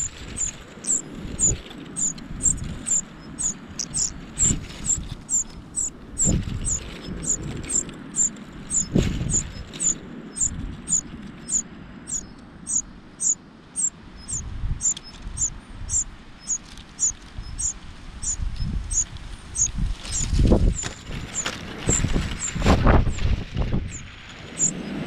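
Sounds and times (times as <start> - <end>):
cuckoo nestling begging calls: 0.0 - 23.2, 23.9 - 24.9.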